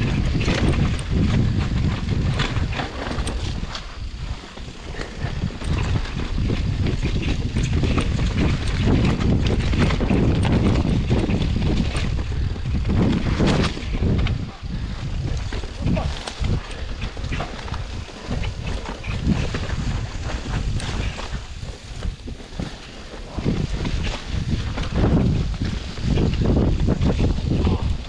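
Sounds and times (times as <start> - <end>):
bike clicks and rattles: 0.0 - 28.0
wind buffeting microphone: 0.0 - 28.0.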